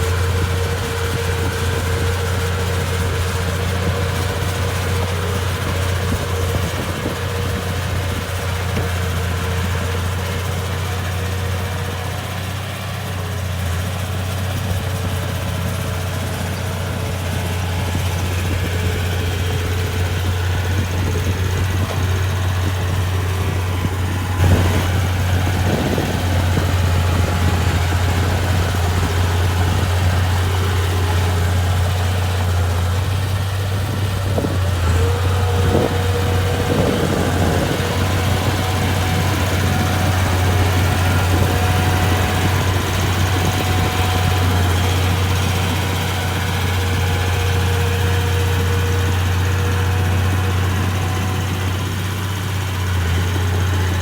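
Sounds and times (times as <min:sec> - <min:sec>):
bulldozer diesel engine humming: 0:00.0 - 0:54.0.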